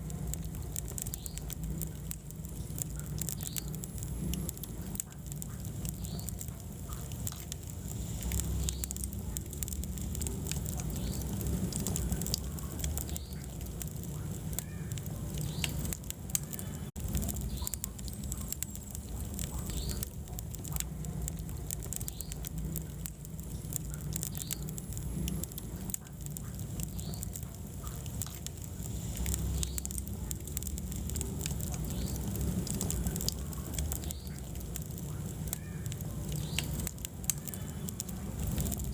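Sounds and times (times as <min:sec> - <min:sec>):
flames low rumble: 0:00.0 - 0:38.9
wood fire crackling and popping: 0:00.0 - 0:38.9.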